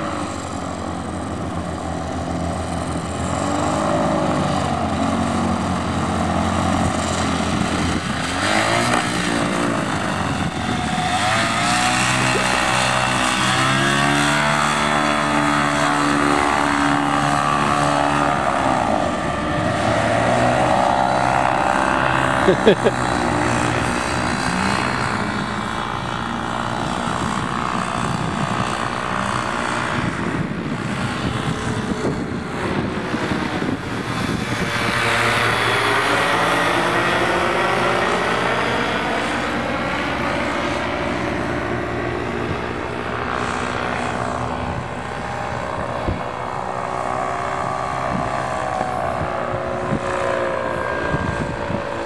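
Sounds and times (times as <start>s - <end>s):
paramotor engines droning overhead: 0.0s - 52.0s.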